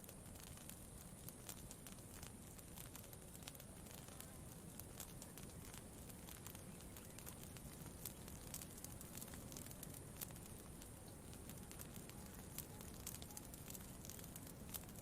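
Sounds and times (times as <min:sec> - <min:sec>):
campfire crackling: 0:00.0 - 0:15.0
low background noise: 0:00.0 - 0:15.0.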